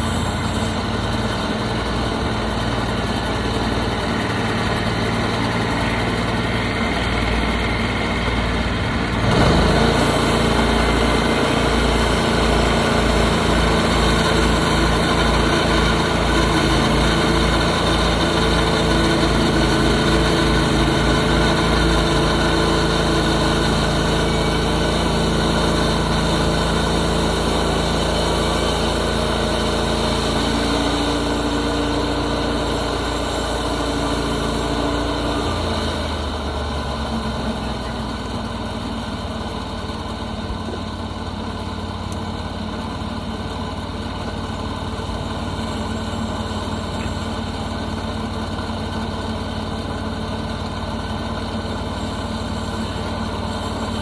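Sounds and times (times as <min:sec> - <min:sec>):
sawmill gas engine running: 0:00.0 - 0:54.0.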